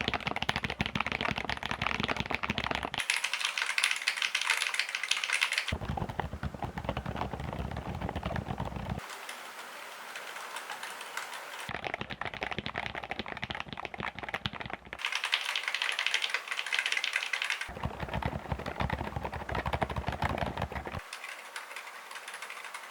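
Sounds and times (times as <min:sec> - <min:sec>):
mechanical keyboard typing: 0:00.0 - 0:09.1, 0:10.1 - 0:22.9.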